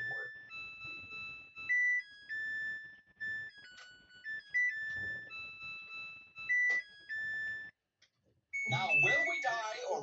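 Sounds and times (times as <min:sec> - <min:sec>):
phone ringtone melody: 0:00.0 - 0:07.8, 0:08.5 - 0:10.0.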